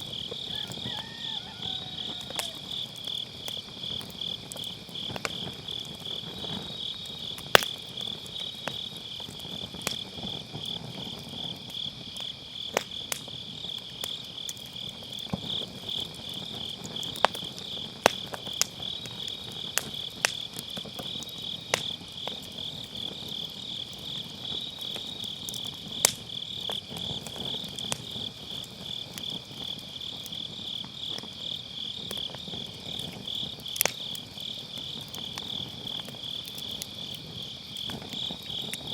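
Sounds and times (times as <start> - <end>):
crickets chirping: 0.0 - 38.9
wood fire crackling and popping: 0.0 - 38.9.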